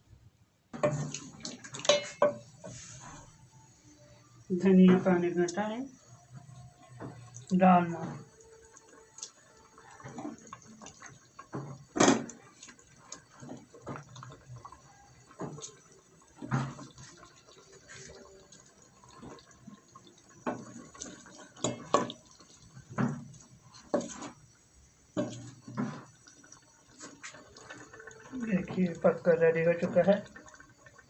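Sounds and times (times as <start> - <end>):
wet squelches of stirring curry: 0.8 - 4.4, 5.0 - 31.0.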